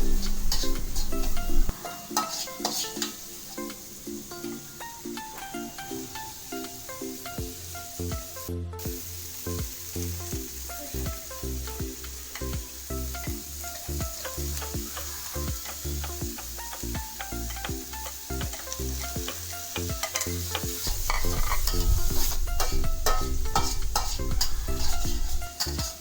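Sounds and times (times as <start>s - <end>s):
food frying in a pan: 0.0s - 26.0s
music with plucked melody: 0.0s - 26.0s.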